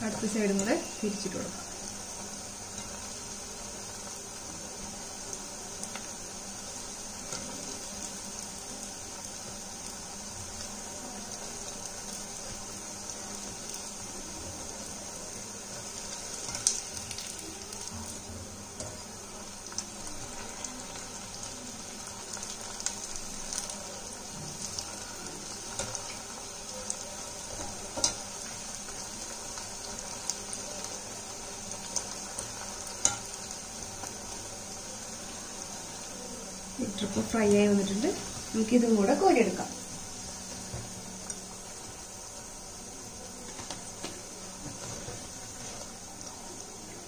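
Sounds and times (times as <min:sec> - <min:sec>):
deep-frying sizzle: 0:00.0 - 0:47.0.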